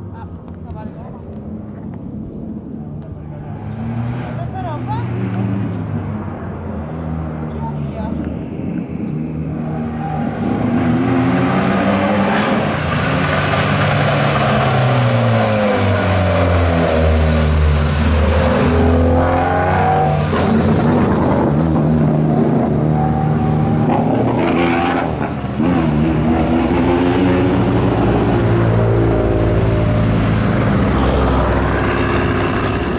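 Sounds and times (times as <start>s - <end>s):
race car engine revving: 3.0s - 32.9s.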